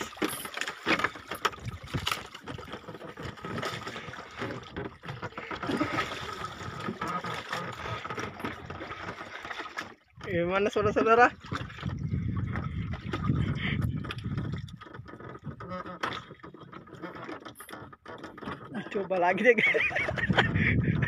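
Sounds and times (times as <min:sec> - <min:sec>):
water splashing around boat: 0:00.0 - 0:21.0.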